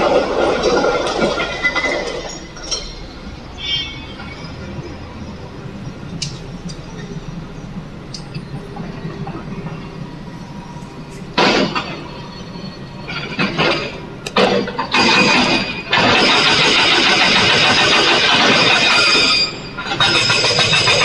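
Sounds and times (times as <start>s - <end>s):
heavy diesel engine: 0.0s - 21.0s.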